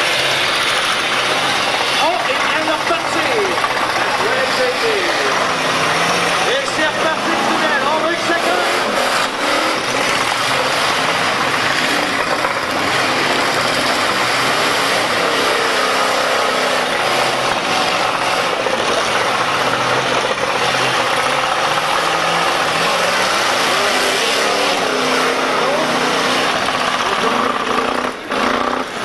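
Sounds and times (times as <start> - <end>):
car engines running: 0.0 - 29.0.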